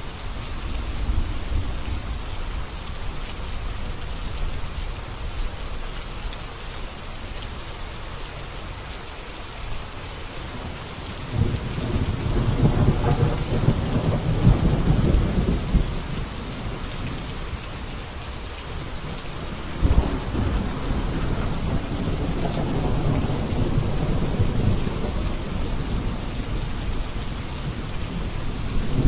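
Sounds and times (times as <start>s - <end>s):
steady rain hissing: 0.0s - 29.0s.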